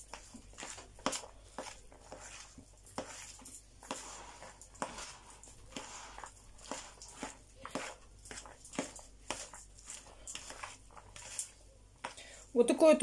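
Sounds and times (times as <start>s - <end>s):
hands squishing salad in a bowl: 0.0s - 12.6s.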